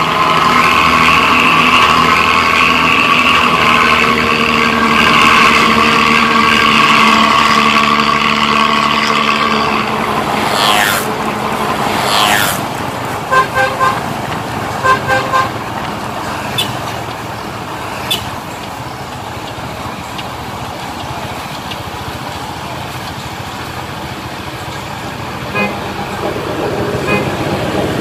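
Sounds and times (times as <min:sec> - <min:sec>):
motorcycle exhaust rough rumble: 0:00.0 - 0:28.0.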